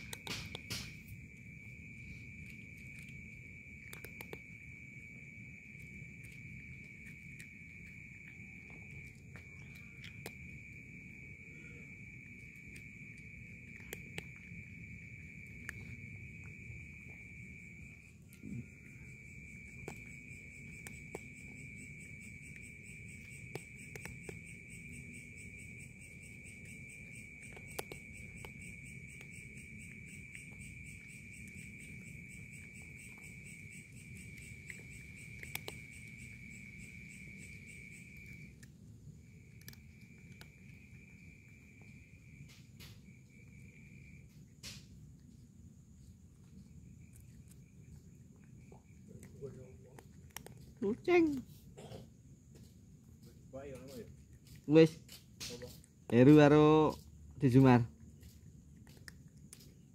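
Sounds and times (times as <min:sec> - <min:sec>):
cat crunching dry kibble: 0:00.0 - 0:59.9
crickets trilling: 0:00.0 - 0:59.9.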